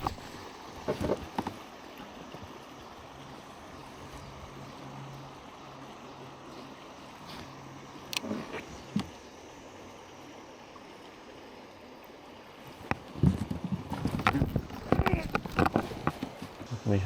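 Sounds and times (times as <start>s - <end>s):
shallow river water running: 0.0s - 17.0s.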